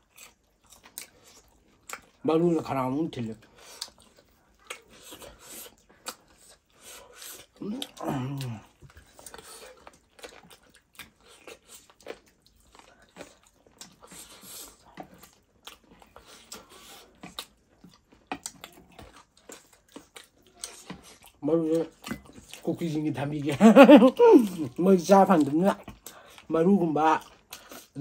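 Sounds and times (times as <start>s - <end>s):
wet chewing and mouth smacks: 0.0s - 28.0s.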